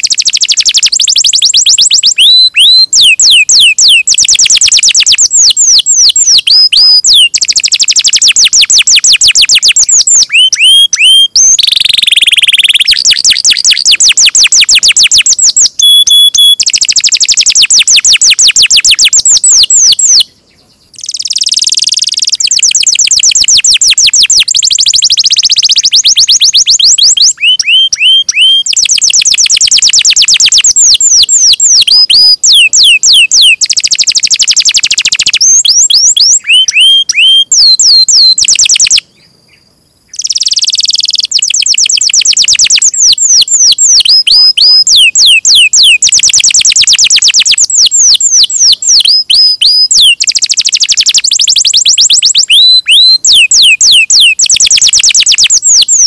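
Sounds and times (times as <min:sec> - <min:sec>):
songbird trilling: 0:00.0 - 0:56.0.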